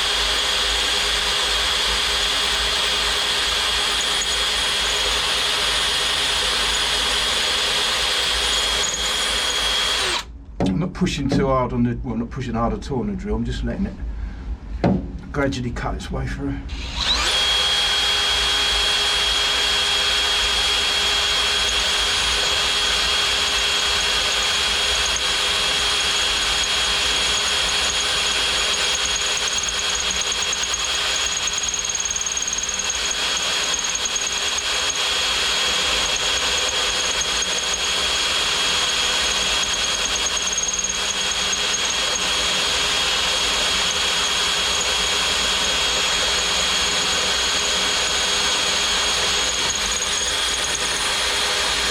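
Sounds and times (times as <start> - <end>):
electric drill boring through steel: 0.0 - 10.3, 16.7 - 51.9.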